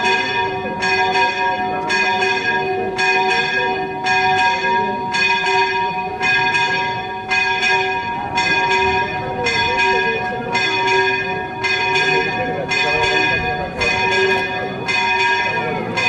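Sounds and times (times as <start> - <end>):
church bell ringing: 0.0 - 16.0.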